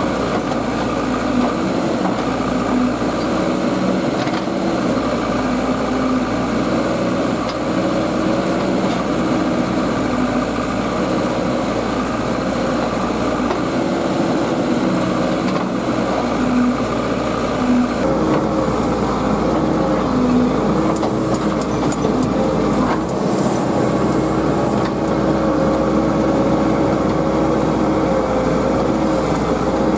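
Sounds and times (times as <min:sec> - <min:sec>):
heavy machinery diesel engine: 0:00.0 - 0:29.9.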